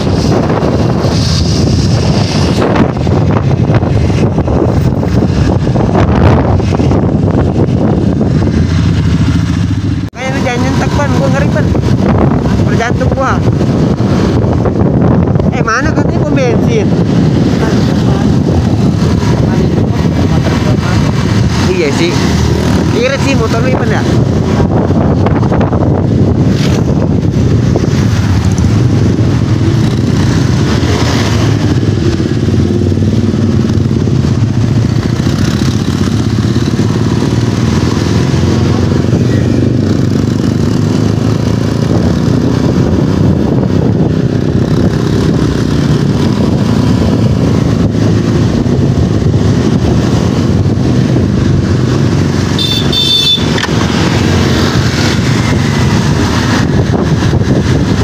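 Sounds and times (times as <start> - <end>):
motorcycle engine rumble: 0.0 - 58.0.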